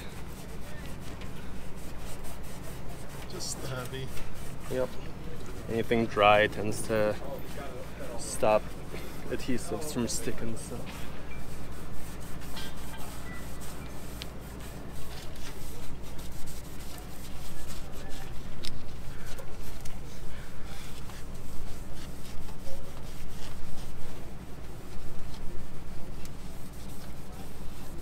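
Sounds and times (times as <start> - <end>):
rag rubbing on metal pipe: 0.0 - 28.0.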